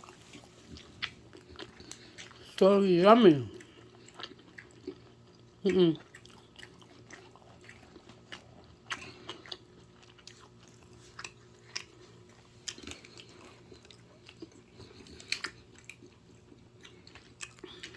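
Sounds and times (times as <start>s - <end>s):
person chewing pizza: 0.0s - 17.9s.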